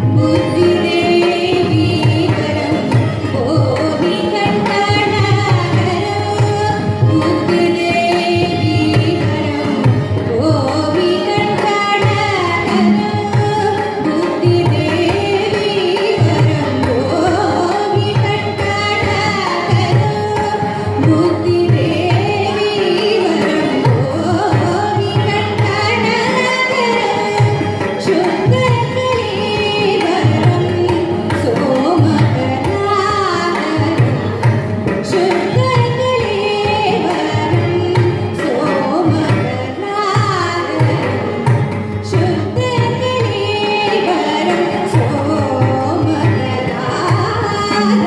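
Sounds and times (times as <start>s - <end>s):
violin: 0.0s - 48.0s
woman singing: 0.0s - 48.0s.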